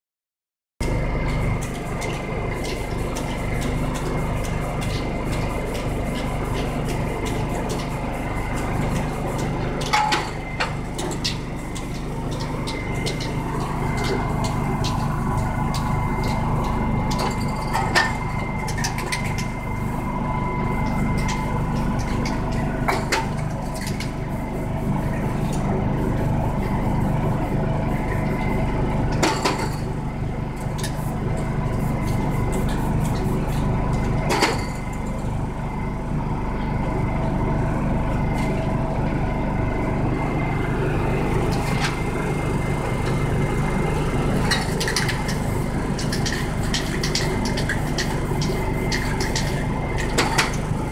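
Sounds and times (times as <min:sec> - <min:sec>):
low hum of street noise: 0:00.8 - 0:50.9.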